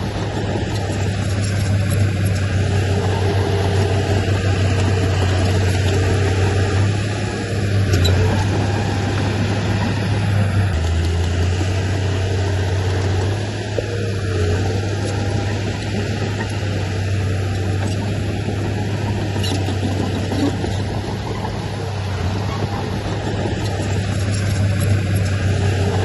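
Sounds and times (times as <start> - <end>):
heavy diesel engine humming: 0.0 - 26.0.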